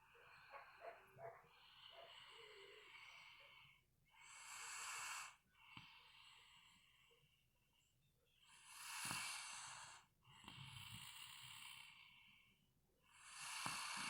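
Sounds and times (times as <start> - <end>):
soft snoring: 0.0 - 7.2, 8.6 - 12.3, 13.1 - 14.0.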